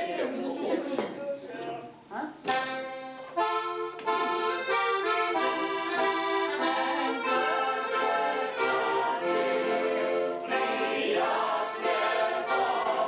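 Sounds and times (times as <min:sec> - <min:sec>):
accordion playing: 0:02.5 - 0:13.0.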